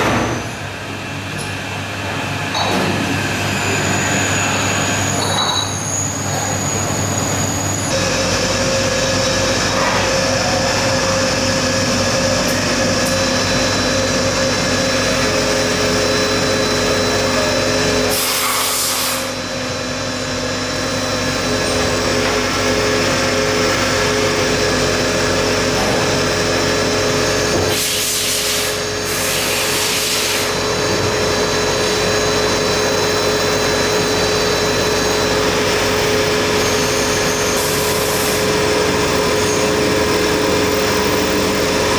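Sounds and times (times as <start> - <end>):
factory machinery humming: 0.0 - 41.9.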